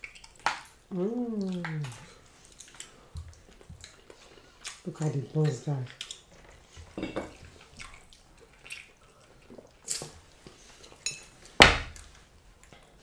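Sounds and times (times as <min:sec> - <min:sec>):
wet eating sounds: 0:00.0 - 0:11.0.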